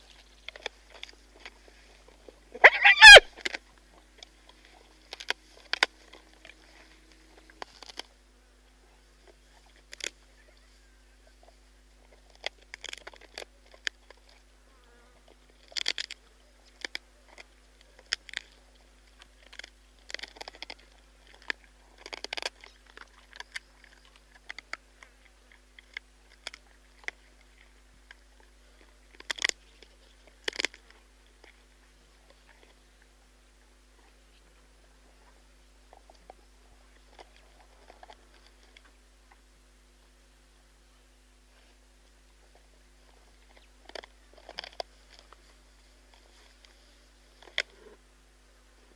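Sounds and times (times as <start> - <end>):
hyena crunching bones: 0.0 - 10.4, 11.3 - 14.5, 15.1 - 33.1, 35.9 - 39.5, 41.6 - 48.1.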